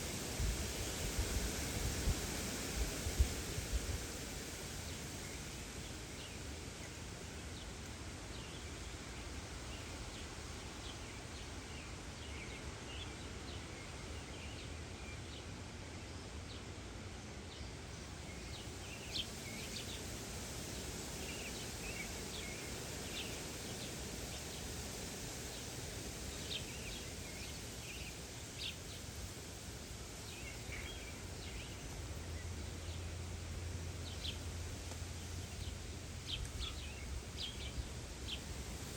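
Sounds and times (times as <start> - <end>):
outdoor background hiss: 0.0 - 38.9
songbirds chirping: 0.0 - 38.9.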